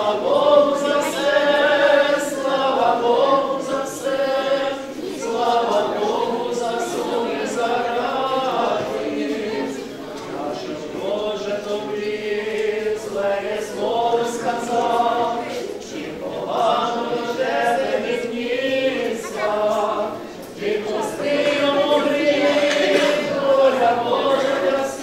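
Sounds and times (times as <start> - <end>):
church choir chanting: 0.0 - 25.0.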